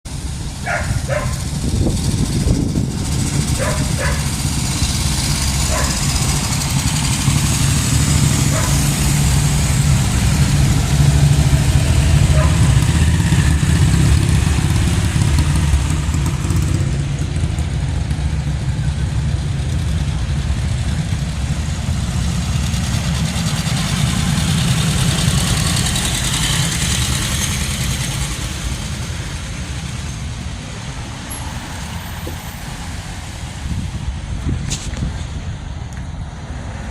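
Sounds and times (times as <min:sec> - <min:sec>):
motorcycle engines running: 0:00.1 - 0:36.3.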